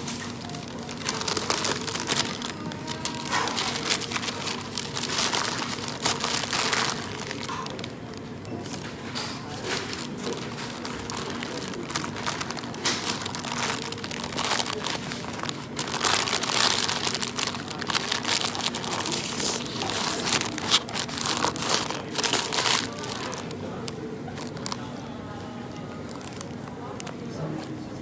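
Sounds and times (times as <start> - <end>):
paper wrapper crinkling: 0.0 - 27.8.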